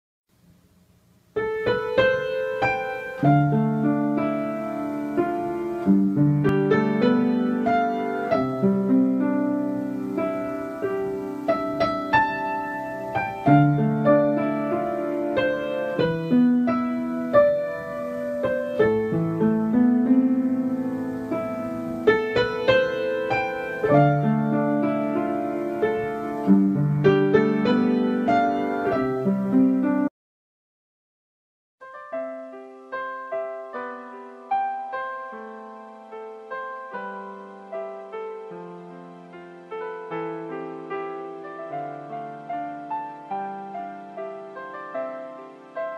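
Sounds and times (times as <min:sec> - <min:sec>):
slow piano music: 0:01.2 - 0:30.1, 0:31.8 - 0:45.9.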